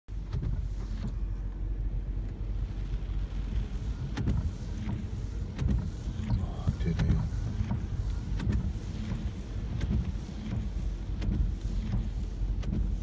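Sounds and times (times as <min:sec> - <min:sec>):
wind and rain low rumble: 0:00.1 - 0:13.0.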